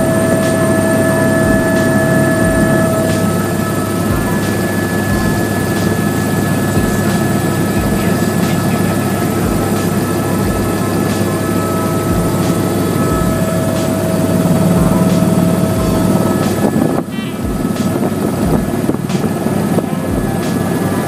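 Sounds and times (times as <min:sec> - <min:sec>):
helicopter cabin drone: 0:00.0 - 0:21.0
high turbine whining tones: 0:00.0 - 0:21.0.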